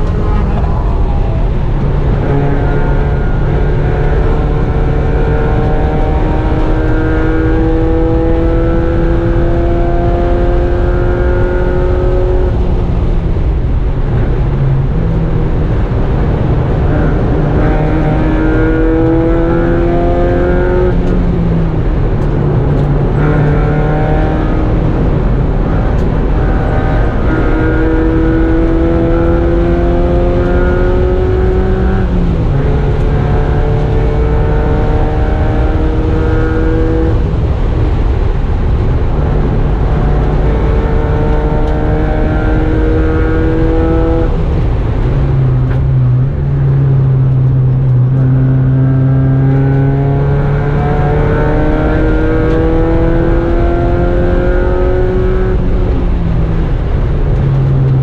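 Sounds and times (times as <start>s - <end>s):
race car engine accelerating: 0.0s - 58.0s
road and wind noise: 0.0s - 58.0s.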